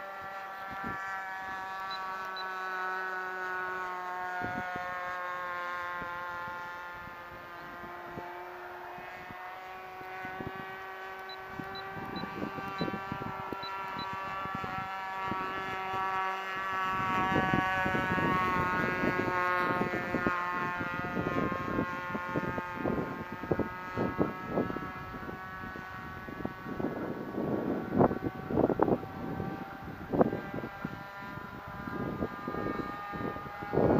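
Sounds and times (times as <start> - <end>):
model plane engine: 0.0 - 33.9
wind gusting on microphone: 0.0 - 33.9.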